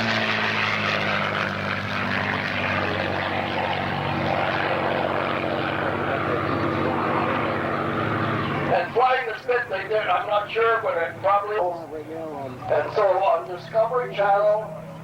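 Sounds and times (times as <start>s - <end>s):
propeller plane engine droning: 0.0s - 15.0s
propeller rushing: 0.0s - 15.0s.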